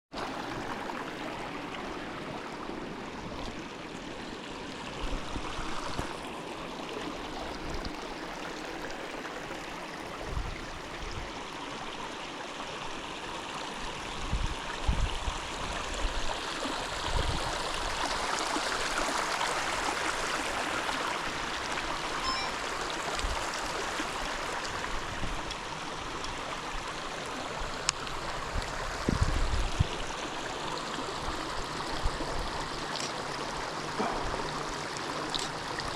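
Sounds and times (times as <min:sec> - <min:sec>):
stream water rushing: 0:00.1 - 0:35.9.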